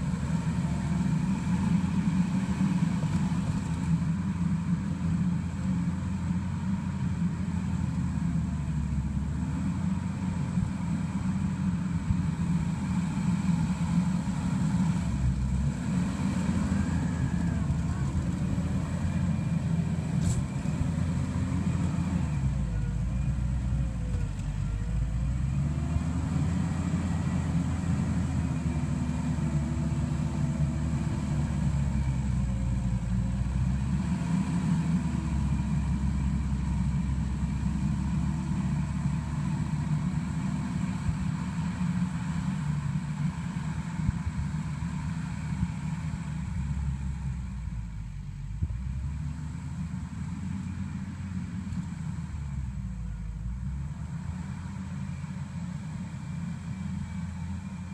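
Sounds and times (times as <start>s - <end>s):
track loader diesel engine: 0.0s - 57.9s.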